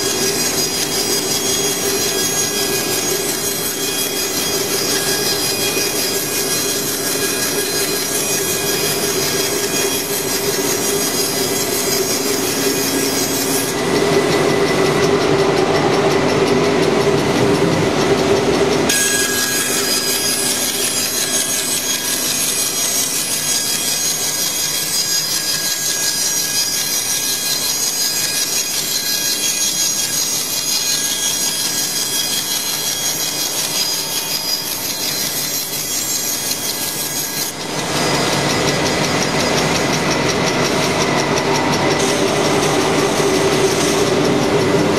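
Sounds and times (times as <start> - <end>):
router cutting wood: 0.0 - 44.9.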